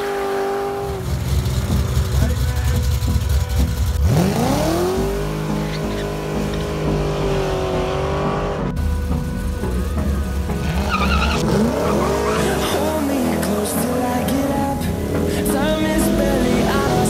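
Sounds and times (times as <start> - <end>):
car engine revving hard: 0.0 - 8.8, 10.4 - 17.0
second car engine revving: 0.0 - 17.0
music: 1.5 - 17.0.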